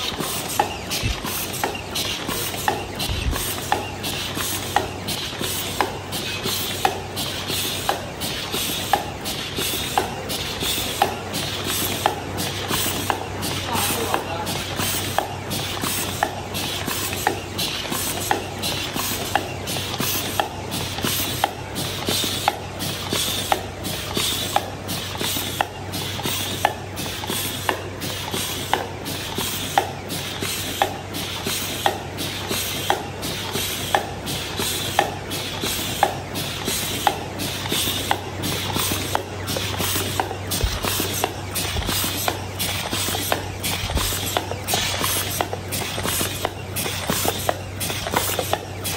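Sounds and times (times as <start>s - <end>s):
machine motor hum and hiss: 0.0s - 48.9s.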